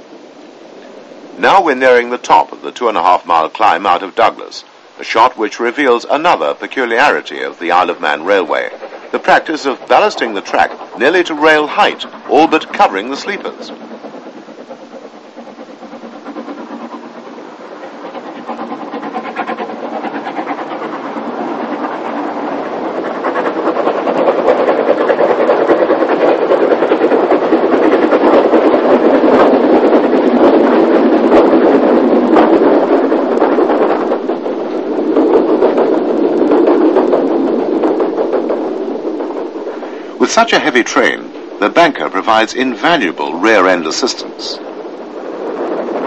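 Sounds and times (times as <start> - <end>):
steam locomotive exhaust beats: 0.0 - 46.0
train wheel clatter: 0.8 - 46.0.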